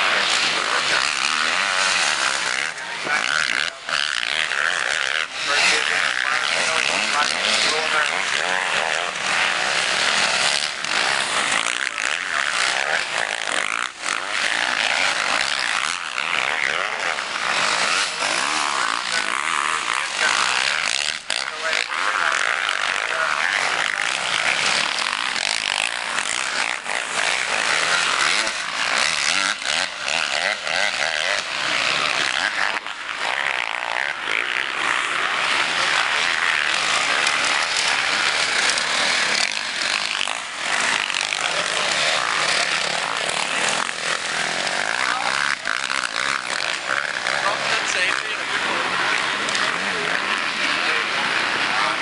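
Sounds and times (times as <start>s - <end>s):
motocross bike engines revving: 0.0s - 52.0s.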